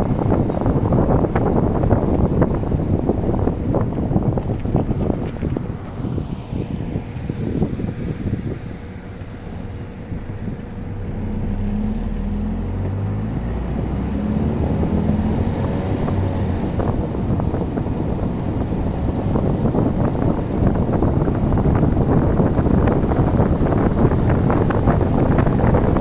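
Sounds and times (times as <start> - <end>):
low engine hum: 0.0 - 26.0
tyre and road rumble: 0.0 - 26.0.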